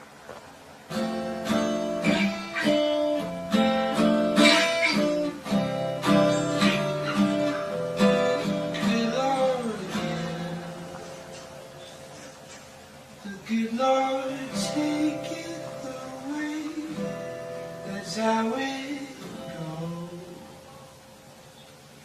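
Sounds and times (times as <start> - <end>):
acoustic guitar strumming: 0.0 - 21.8.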